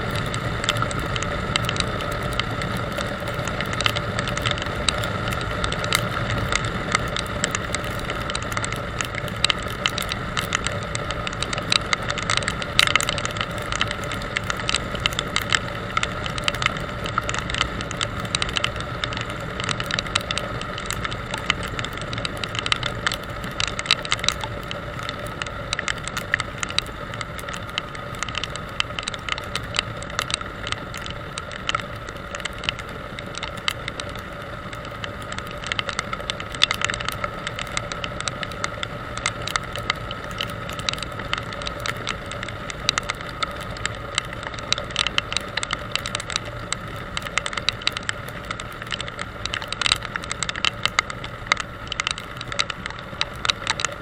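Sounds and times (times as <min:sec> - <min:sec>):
constant whine: 0:00.0 - 0:54.0
irregular clicks and rattles: 0:00.0 - 0:54.0.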